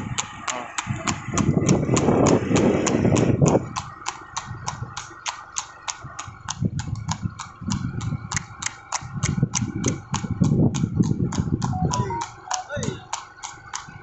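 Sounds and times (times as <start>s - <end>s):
horse hooves trotting on asphalt: 0.0s - 14.0s.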